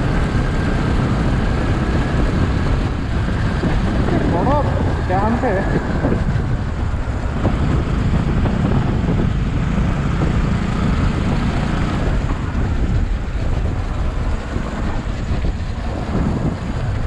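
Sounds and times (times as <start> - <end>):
motorcycle engine running: 0.0 - 17.0
wind on microphone: 0.0 - 17.0.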